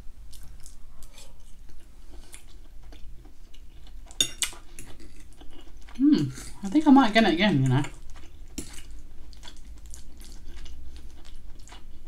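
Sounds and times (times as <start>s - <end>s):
chewing with wet clicks: 0.3s - 6.0s, 7.7s - 12.0s.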